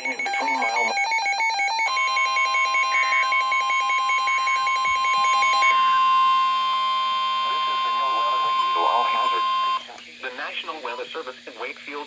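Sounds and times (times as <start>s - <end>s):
steady warning alarm tone: 0.0s - 9.8s.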